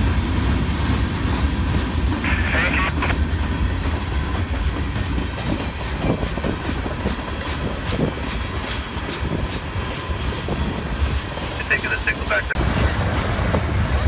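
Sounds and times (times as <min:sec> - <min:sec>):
freight train rumbling: 0:00.0 - 0:14.0
wheels clacking on track: 0:00.0 - 0:14.0.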